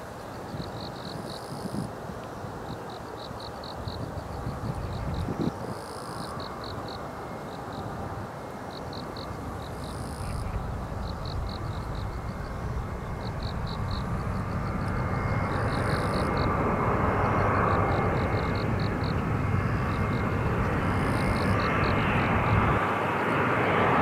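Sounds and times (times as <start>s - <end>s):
airliner jet engine noise: 0.0s - 24.0s
faint high whine: 0.0s - 24.0s.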